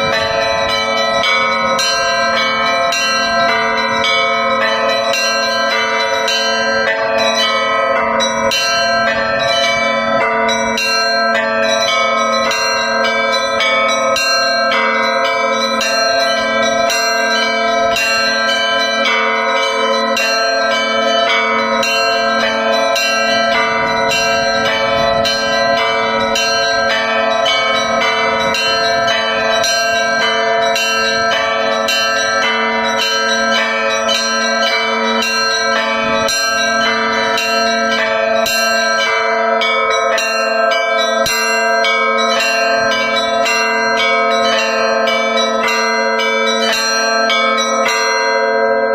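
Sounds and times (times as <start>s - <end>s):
large bells humming: 0.0s - 48.9s
small church bells striking: 0.0s - 48.9s.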